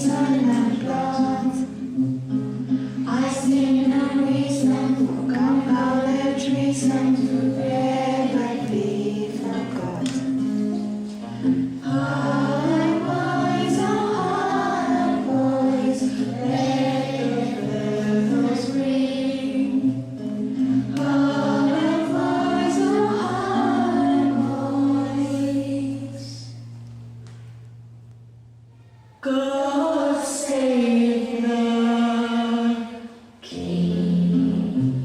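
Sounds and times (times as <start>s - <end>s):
choir singing: 0.0s - 1.8s, 3.1s - 10.8s, 11.8s - 20.0s, 20.8s - 26.5s, 29.2s - 35.0s.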